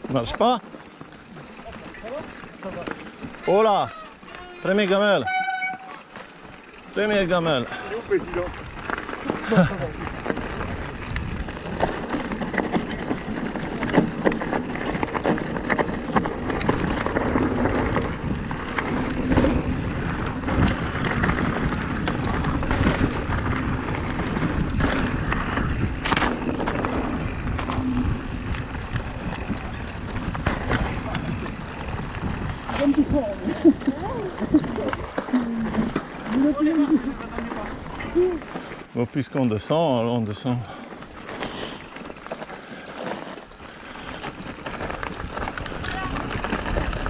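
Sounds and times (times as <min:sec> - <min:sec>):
bike knocking and rattling: 0:00.0 - 0:47.0
bike tyres rolling on rough trail: 0:00.0 - 0:47.0.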